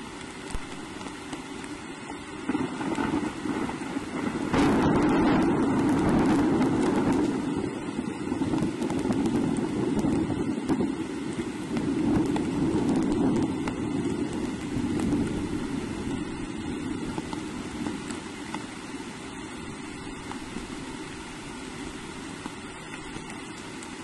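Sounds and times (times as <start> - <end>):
rain drop ticks: 0.0 - 24.0
steady rain falling: 0.0 - 24.0.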